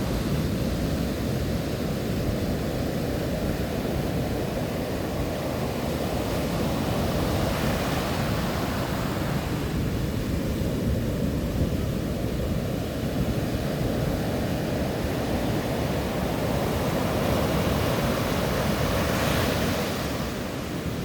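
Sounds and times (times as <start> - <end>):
waves crashing: 0.0 - 10.4, 13.2 - 21.0.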